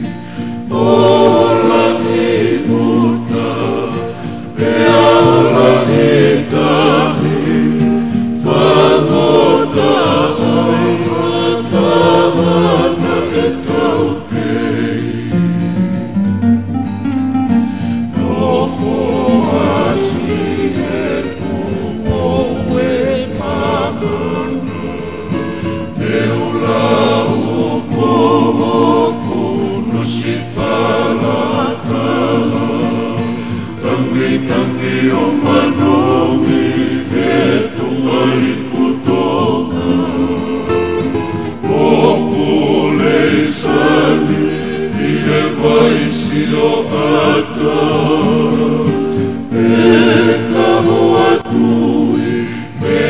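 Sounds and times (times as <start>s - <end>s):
men singing in harmony: 0.0s - 15.9s, 17.8s - 53.0s
strummed acoustic guitars: 0.0s - 53.0s.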